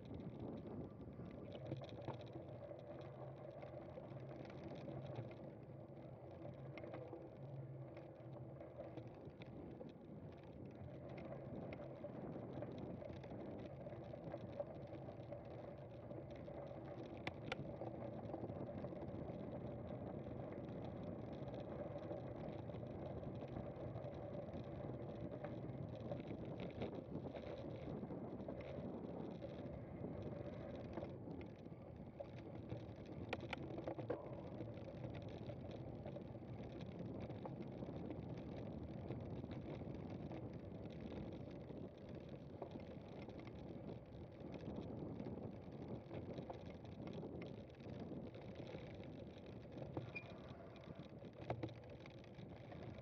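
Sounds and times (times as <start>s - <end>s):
bicycle rolling and drivetrain noise: 0.0s - 53.0s
small clicks and rattles: 0.0s - 53.0s.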